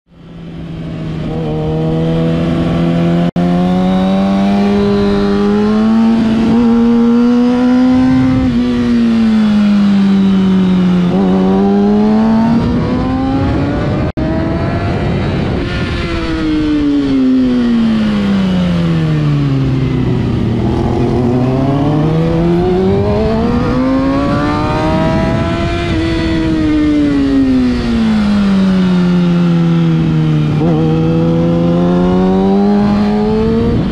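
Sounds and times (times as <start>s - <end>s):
motorcycle engine accelerating: 0.1s - 33.9s.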